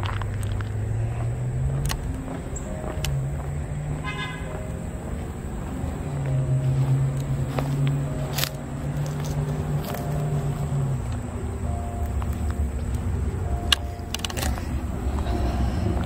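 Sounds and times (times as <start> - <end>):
sustained low music notes: 0.0 - 16.0.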